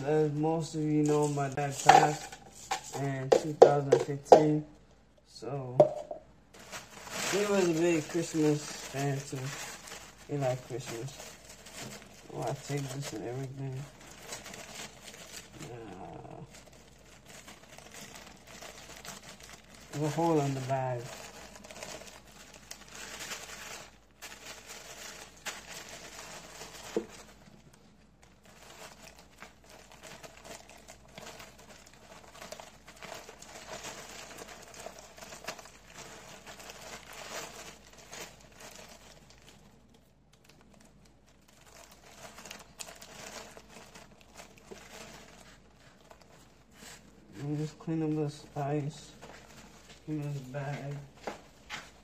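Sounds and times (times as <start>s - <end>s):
plastic bag crinkling: 0.0s - 4.3s, 5.8s - 52.0s.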